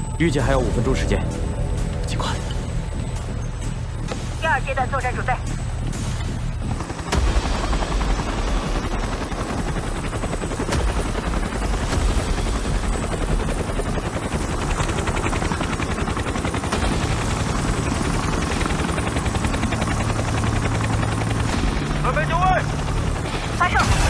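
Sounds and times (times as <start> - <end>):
helicopter rotor chopping: 0.0 - 24.0.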